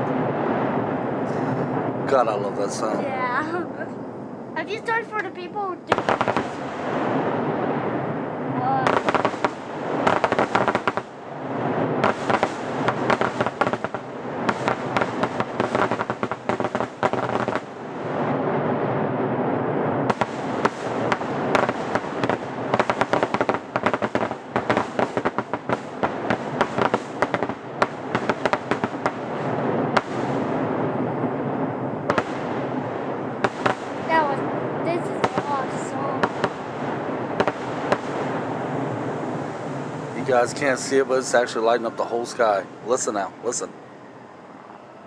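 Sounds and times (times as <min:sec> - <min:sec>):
fireworks crackling and popping: 0:00.0 - 0:04.0, 0:04.6 - 0:43.8.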